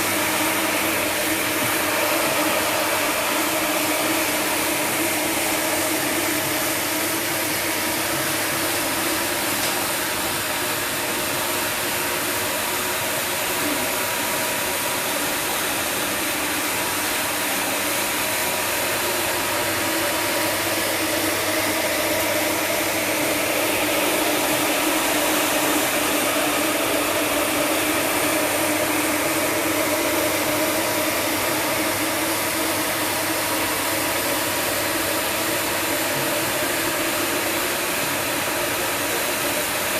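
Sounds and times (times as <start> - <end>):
carpet washing machine running: 0.0 - 39.9.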